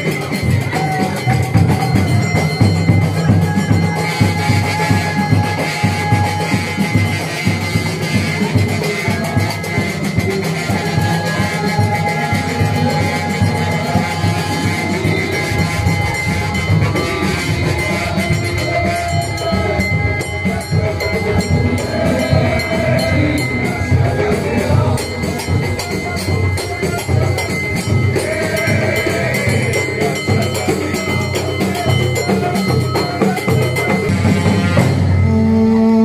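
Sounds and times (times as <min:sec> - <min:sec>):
group singing: 0:00.0 - 0:35.9
hand drums and tambourines: 0:00.0 - 0:36.0.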